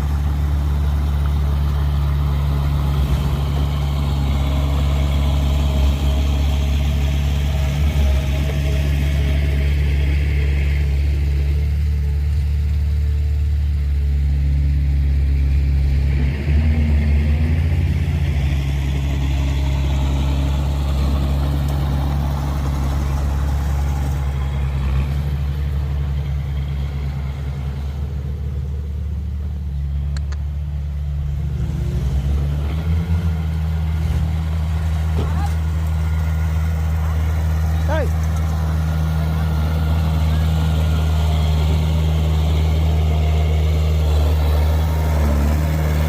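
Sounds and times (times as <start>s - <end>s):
motor vehicle rumble: 0.0s - 46.0s.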